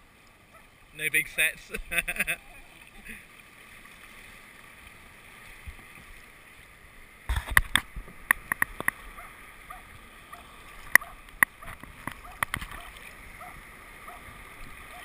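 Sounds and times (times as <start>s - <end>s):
sea water lapping: 0.0s - 15.0s
water splashing: 0.0s - 15.0s.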